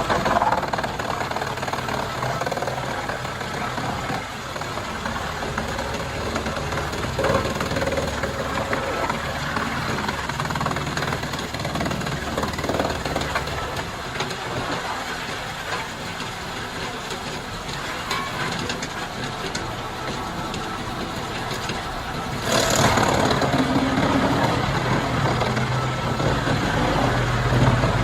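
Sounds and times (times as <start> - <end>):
wood chipper engine running: 0.0 - 28.0
wood cracking in chipper: 0.0 - 28.0.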